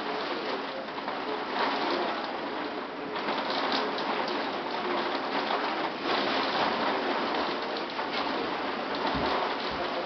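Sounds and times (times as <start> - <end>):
torrential rain pouring: 0.0 - 10.0.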